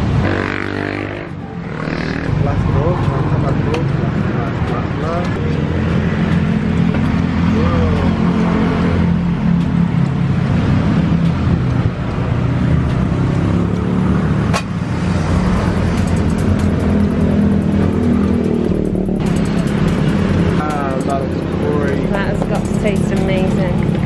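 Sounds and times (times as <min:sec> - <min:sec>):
music with deep bass line: 0:00.0 - 0:13.0, 0:15.1 - 0:24.0.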